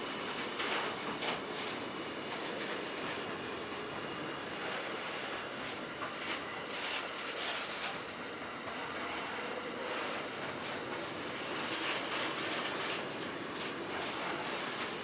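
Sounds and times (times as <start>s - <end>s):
train rolling on track: 0.0s - 15.0s
wheels hissing pulses: 0.0s - 15.0s.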